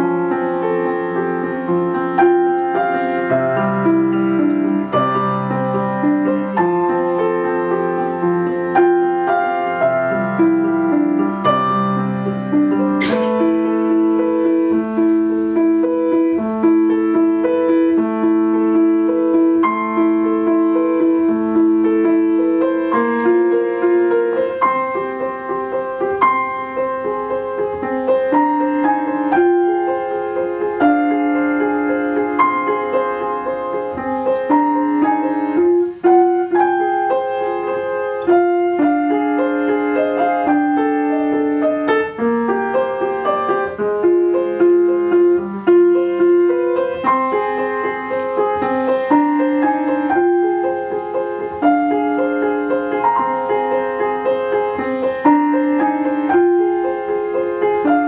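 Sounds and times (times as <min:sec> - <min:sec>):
grand piano notes and chords: 0:00.0 - 0:58.0.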